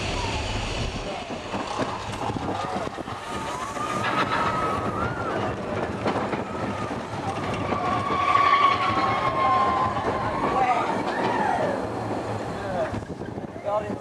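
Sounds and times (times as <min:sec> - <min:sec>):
roller coaster cars rattling: 0:00.0 - 0:14.0
rushing wind noise: 0:00.0 - 0:14.0.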